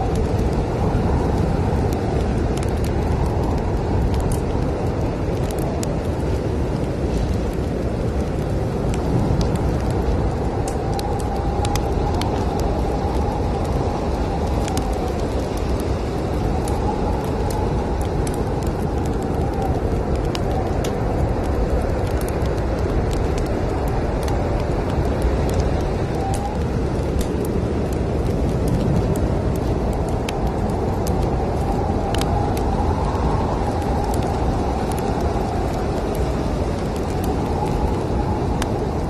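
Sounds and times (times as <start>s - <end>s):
wind rumbling and howling: 0.0s - 39.0s
wood fire crackling: 0.0s - 39.0s.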